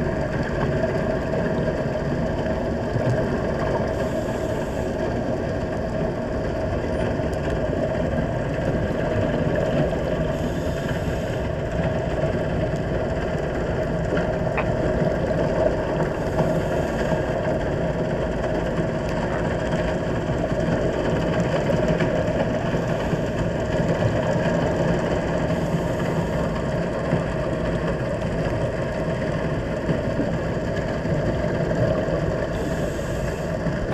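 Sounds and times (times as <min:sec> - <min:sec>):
muffled underwater rumble: 0:00.0 - 0:33.9.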